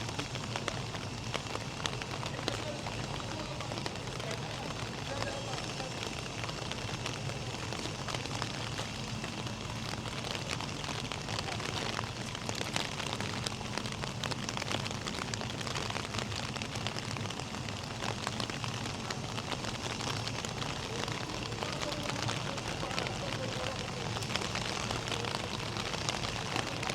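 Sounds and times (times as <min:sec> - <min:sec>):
raindrops ticking close by: 0:00.0 - 0:26.9
steady rain falling: 0:00.0 - 0:26.9.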